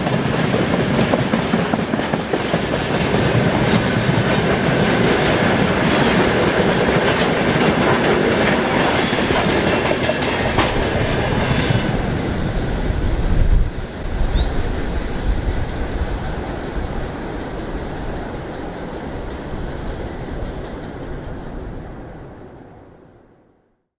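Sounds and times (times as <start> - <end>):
train wheels clattering over rail joints: 0.0 - 21.2.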